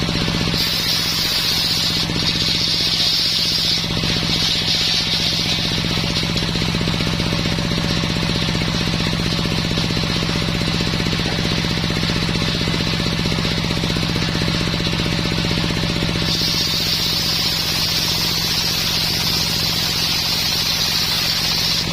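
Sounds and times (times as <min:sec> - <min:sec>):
engine running with pulsing beat: 0:00.0 - 0:21.9.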